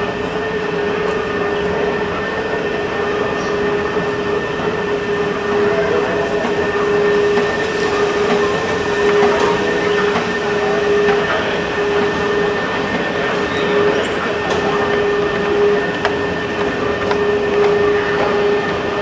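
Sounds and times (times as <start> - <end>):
escalator mechanical drone: 0.0 - 19.0
faint high whine: 0.0 - 19.0.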